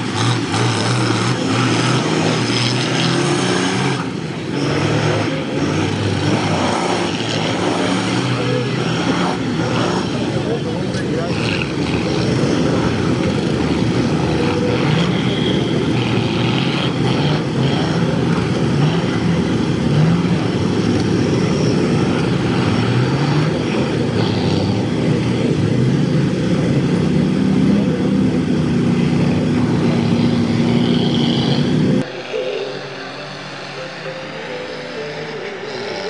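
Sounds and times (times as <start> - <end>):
diesel truck engines revving: 0.0 - 36.0.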